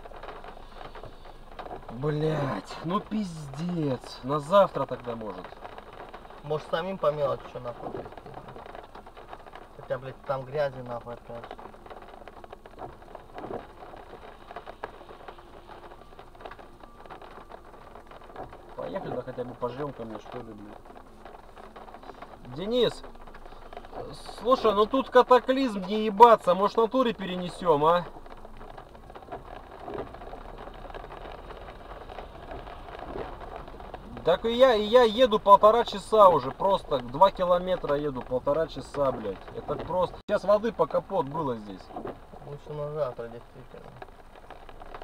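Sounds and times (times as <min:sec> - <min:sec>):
rain pattering on car roof: 0:00.0 - 0:45.0.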